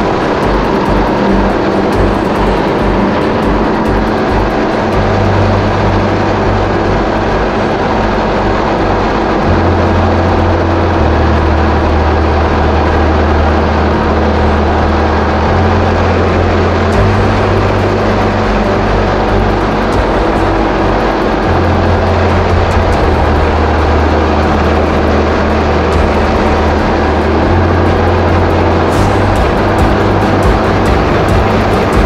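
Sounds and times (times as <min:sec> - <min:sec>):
jet ski engine drone: 0:00.0 - 0:32.0
rushing water: 0:00.0 - 0:32.0
rushing wind: 0:00.0 - 0:32.0.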